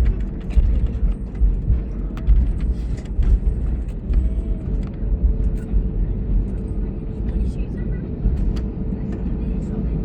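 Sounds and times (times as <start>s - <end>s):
airliner engines and wheels rumbling: 0.0s - 10.0s.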